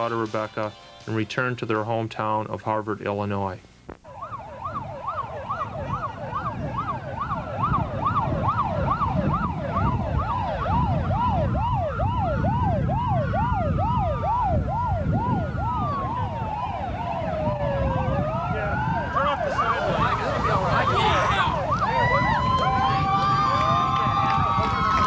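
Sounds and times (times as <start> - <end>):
low traffic rumble: 0.0 - 25.0
siren wail: 4.0 - 25.0
sirens yelping: 4.0 - 25.0.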